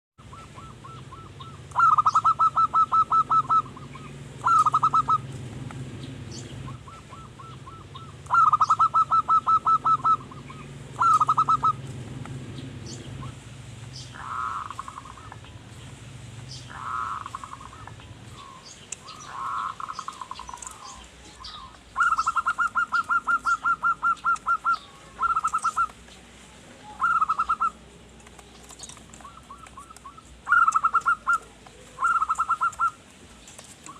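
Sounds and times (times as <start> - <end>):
dove cooing: 0.2 - 33.9
small birds chirping: 0.2 - 33.9.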